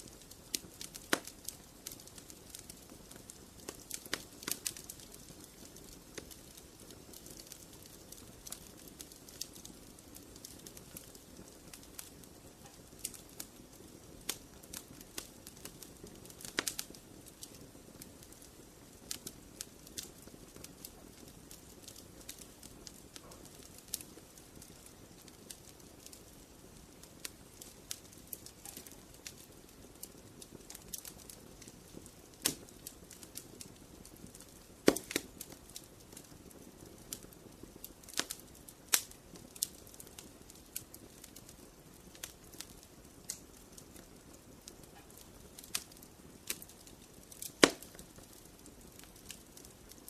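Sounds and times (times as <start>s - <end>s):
campfire crackling and popping: 0.0s - 50.0s
low steady fire hiss: 0.0s - 50.0s.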